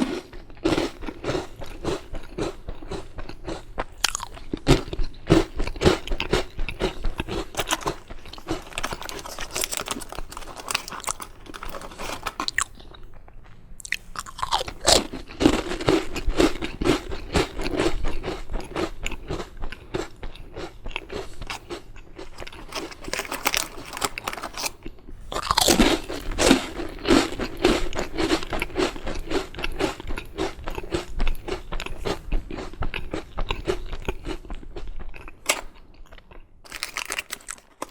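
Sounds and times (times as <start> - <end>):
biscuit crunching bite: 0.0 - 37.9
crunchy chewing: 0.0 - 37.9.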